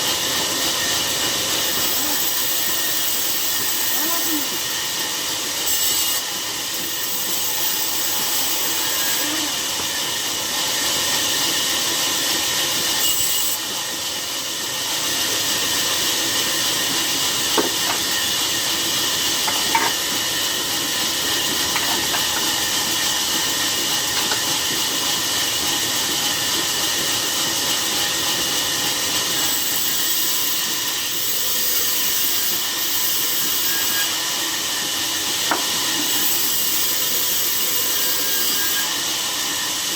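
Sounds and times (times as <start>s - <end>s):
saw blade rasping through log: 0.0s - 13.8s, 15.0s - 27.2s, 28.0s - 39.2s.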